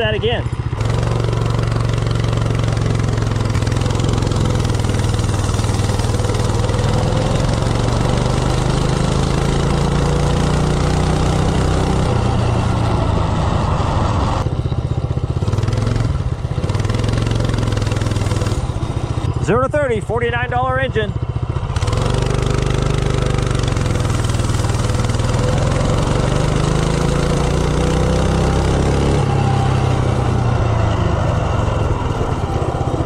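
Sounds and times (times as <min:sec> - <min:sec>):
minibike engine at full throttle: 0:00.0 - 0:33.0.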